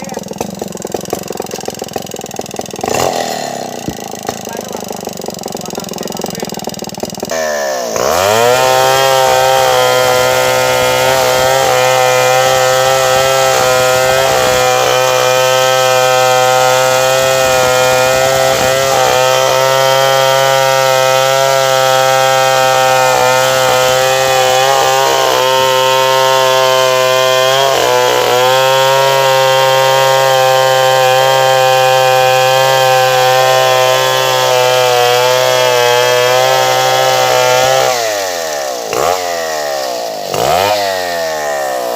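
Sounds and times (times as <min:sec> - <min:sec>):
chainsaw sawing wood: 0:00.0 - 0:41.9.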